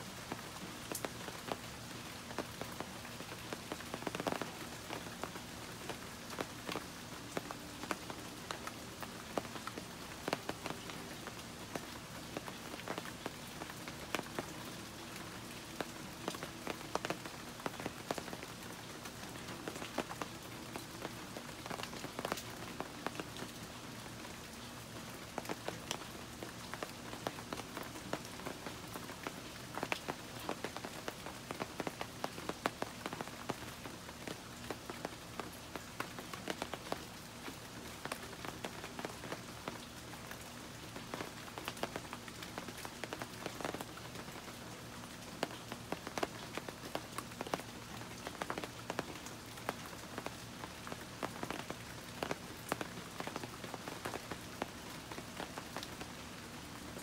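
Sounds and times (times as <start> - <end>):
rain falling on leaves: 0.0 - 57.0
raindrops ticking: 0.0 - 57.0.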